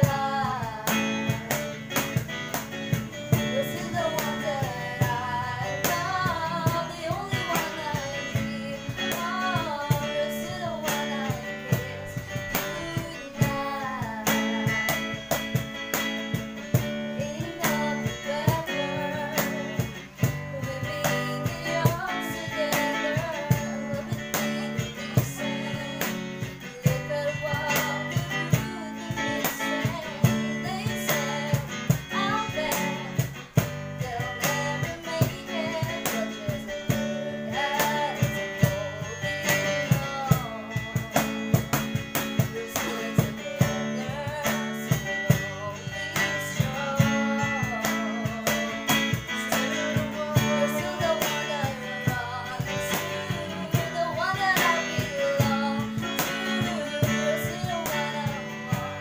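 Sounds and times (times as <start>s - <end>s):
electric guitar: 0.0s - 59.0s
hand strikes on a cajon: 0.0s - 59.0s
woman singing: 0.0s - 59.0s.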